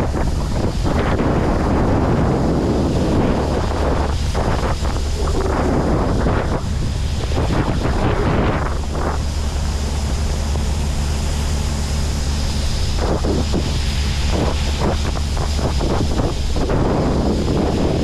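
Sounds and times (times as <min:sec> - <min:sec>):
diesel engine humming: 0:00.0 - 0:18.0
wind buffeting microphone: 0:00.0 - 0:18.0.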